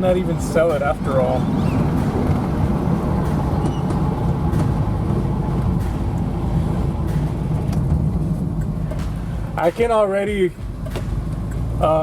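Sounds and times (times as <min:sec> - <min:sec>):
pickup truck engine running: 0:00.0 - 0:12.0
road rumble: 0:00.0 - 0:12.0.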